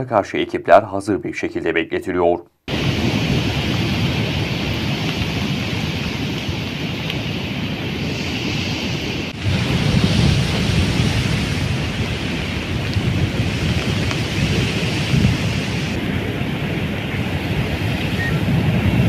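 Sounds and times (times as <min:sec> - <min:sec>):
heavy rain hiss: 0:02.7 - 0:19.0
wind buffeting microphone: 0:02.7 - 0:19.0.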